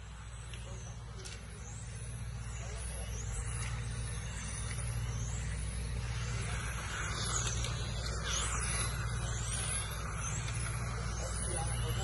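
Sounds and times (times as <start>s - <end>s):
remote control car motors whining: 0.0s - 12.0s
steady low hum: 0.0s - 12.0s.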